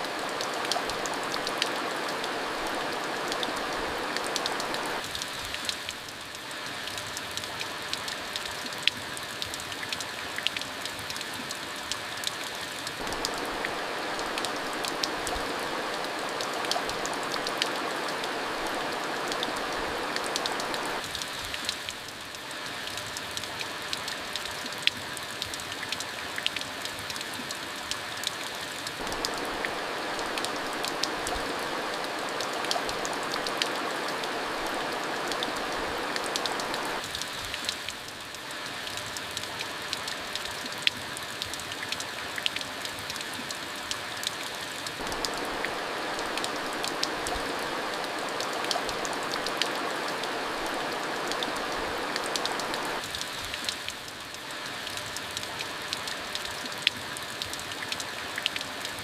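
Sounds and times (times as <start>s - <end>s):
rain falling: 0.0s - 59.0s
raindrops ticking on a surface: 0.0s - 59.0s.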